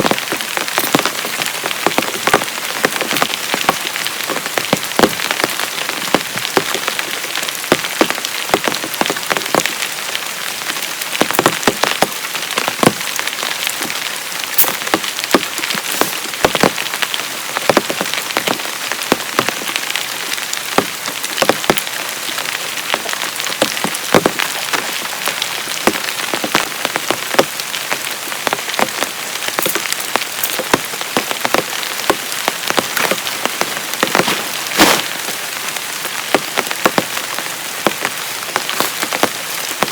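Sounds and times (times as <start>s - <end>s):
heavy rain falling: 0.0s - 39.9s
sharp raindrop impacts: 0.0s - 39.9s.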